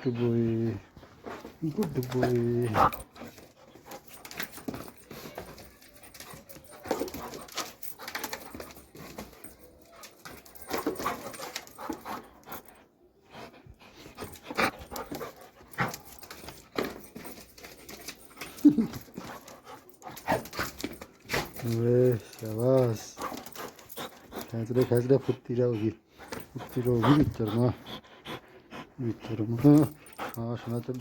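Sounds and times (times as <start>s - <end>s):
dog panting: 0.0s - 31.0s
dog moving about: 0.1s - 31.0s.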